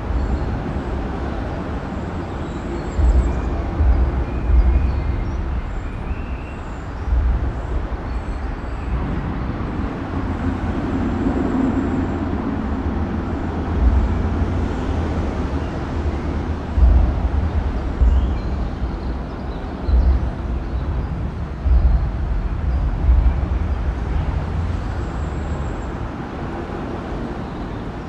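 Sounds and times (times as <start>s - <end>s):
heavy vehicle deep rumble: 0.0s - 27.9s
traffic tyre and engine noise: 0.0s - 28.0s.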